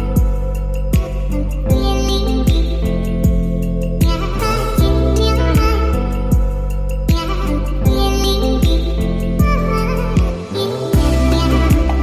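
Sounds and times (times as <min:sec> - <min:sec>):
music with sung melody: 0:00.0 - 0:12.0.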